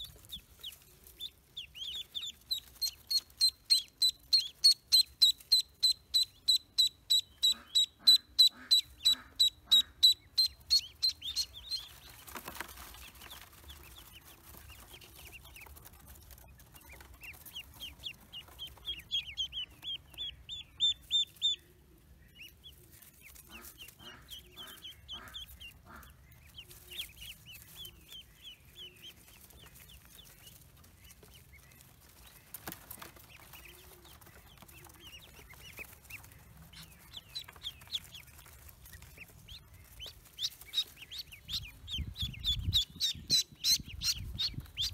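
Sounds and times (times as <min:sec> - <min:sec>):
ducklings peeping: 0:00.0 - 0:44.9.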